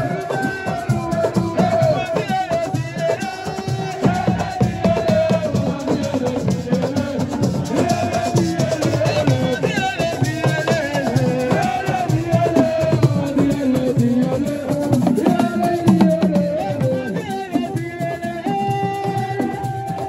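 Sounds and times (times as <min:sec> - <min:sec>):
loud percussive music: 0:00.0 - 0:20.0
shaken rattle: 0:00.0 - 0:20.0.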